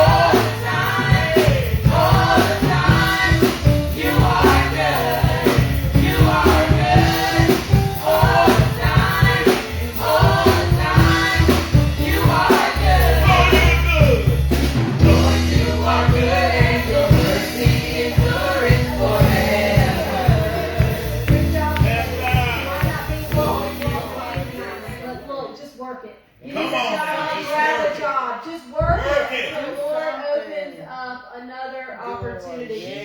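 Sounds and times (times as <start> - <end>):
voices singing gospel song: 0.0 - 25.6, 26.4 - 33.0.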